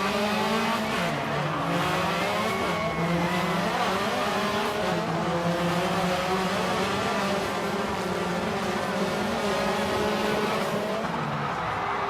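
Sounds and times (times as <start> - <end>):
rally car engine revving: 0.0 - 11.6.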